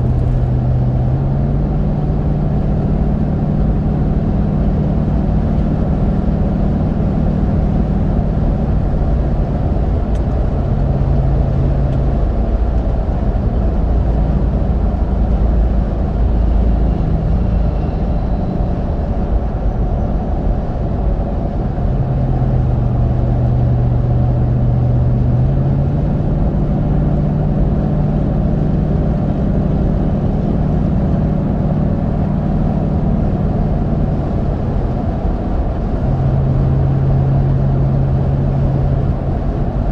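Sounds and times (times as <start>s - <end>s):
tire road roar: 0.0s - 39.9s.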